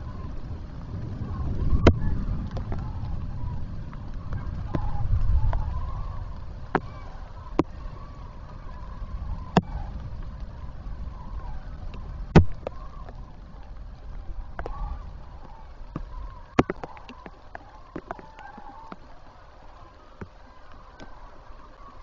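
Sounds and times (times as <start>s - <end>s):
faint crane calls: 0.0s - 22.0s
low rumble of rain and wind: 0.0s - 22.0s
raindrops ticking on microphone housing: 0.0s - 22.0s.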